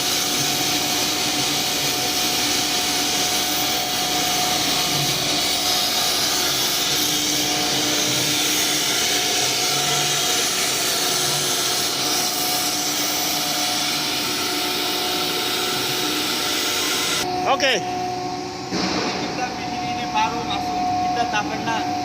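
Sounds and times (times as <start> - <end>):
router machine whine and hiss: 0.0 - 22.0.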